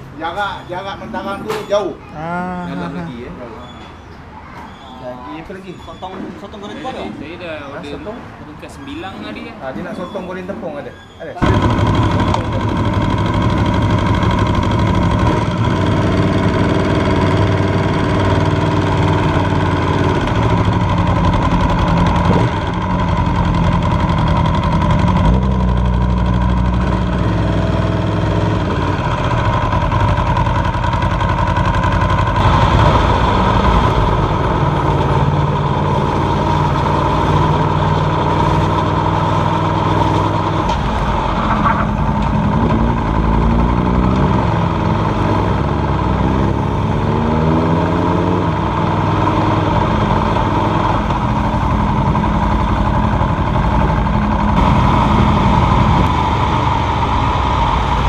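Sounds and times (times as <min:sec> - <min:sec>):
motorcycle engine running: 0:11.4 - 0:58.0.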